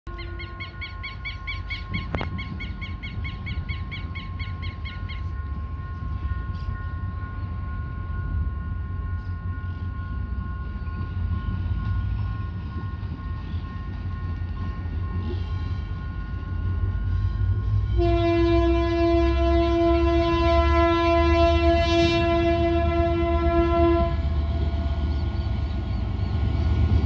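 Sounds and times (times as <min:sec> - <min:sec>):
distant locomotive rumble: 0:00.1 - 0:27.0.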